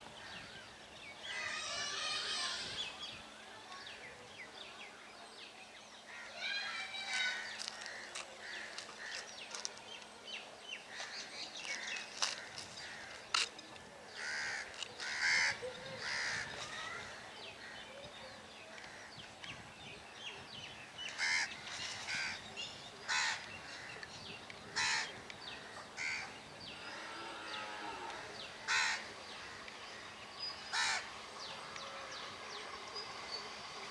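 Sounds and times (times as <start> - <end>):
birds calling and chirping: 0.0 - 33.9.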